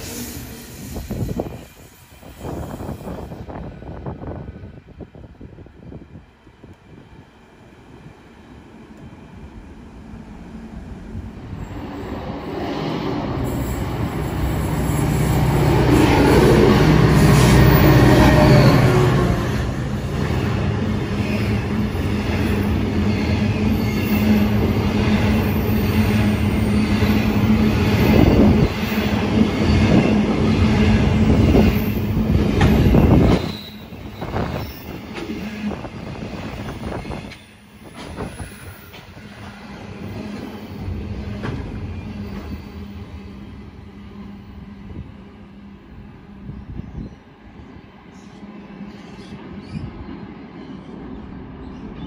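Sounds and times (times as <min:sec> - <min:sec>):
freight train wagons rumbling past: 0:00.0 - 0:52.0.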